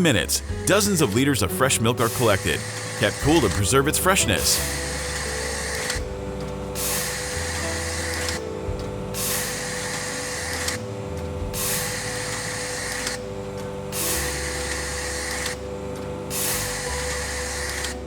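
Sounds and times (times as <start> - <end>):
low background music: 0.0 - 18.0
steady hum: 0.0 - 18.0.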